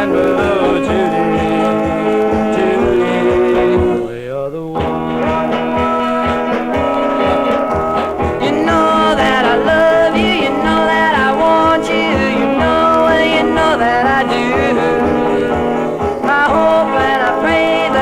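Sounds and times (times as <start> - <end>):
rock and roll record: 0.0 - 18.0.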